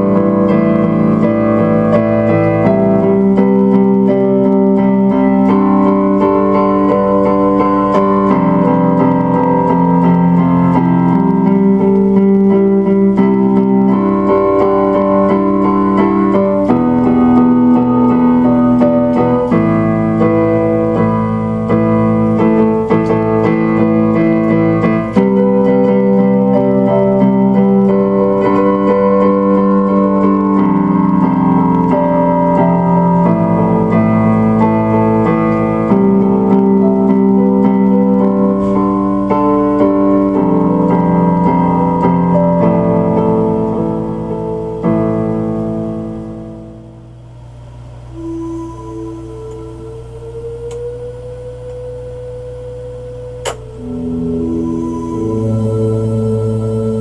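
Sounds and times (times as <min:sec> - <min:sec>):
slow piano chords: 0:00.0 - 0:57.0.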